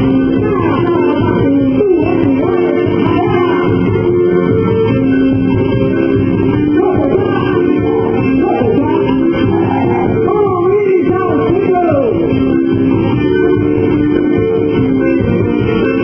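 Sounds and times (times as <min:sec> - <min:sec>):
muffled sung melody over chords: 0:00.0 - 0:16.0.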